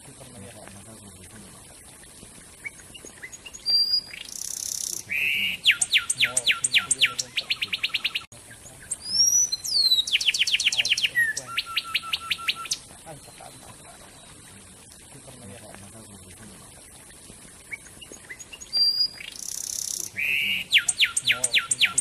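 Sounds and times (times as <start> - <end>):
wren singing: 2.5 - 16.6, 17.6 - 22.0.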